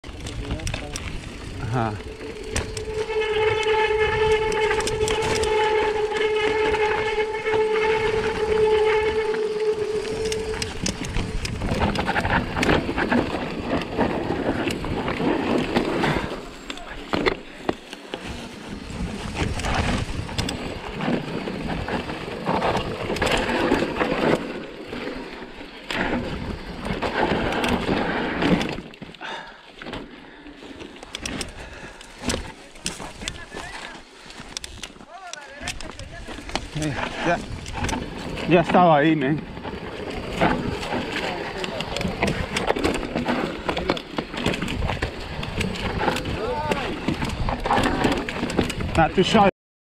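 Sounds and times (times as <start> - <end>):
bike high whine: 0.0 - 49.5
tyres rumbling on dirt: 0.0 - 49.5.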